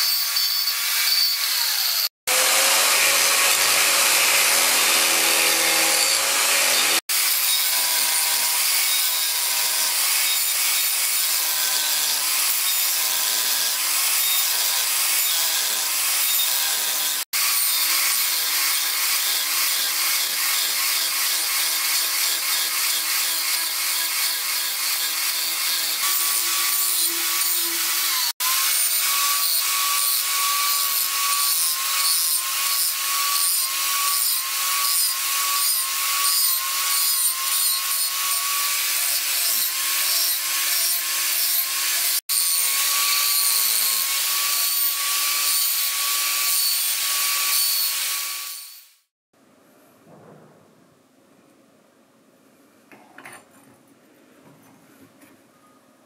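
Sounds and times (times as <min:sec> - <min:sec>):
electric grinder grinding steel: 0:00.0 - 0:49.1.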